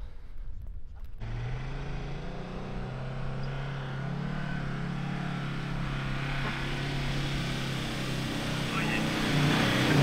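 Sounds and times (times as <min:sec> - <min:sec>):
vehicle engine running under load: 0:01.2 - 0:10.0.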